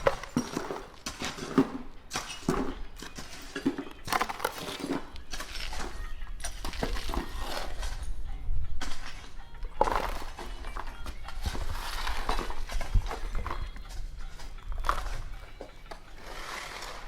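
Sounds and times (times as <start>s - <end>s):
construction debris being moved: 0.0s - 17.0s.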